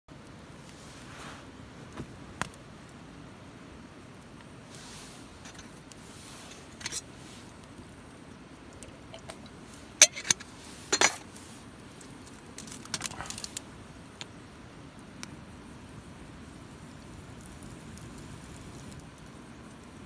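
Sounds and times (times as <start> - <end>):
low background hiss: 0.1 - 20.0.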